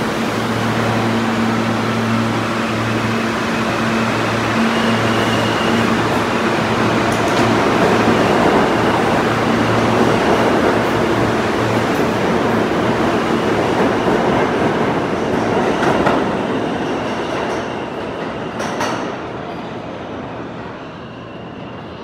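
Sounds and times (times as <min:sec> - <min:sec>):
subway train rumbling past: 0:00.0 - 0:22.0.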